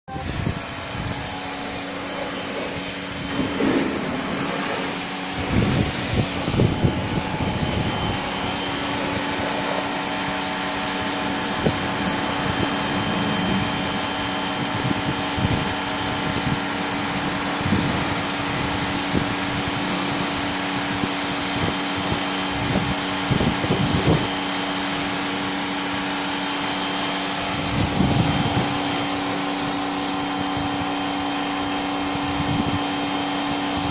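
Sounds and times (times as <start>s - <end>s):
pressure washer motor humming: 0.0s - 33.9s.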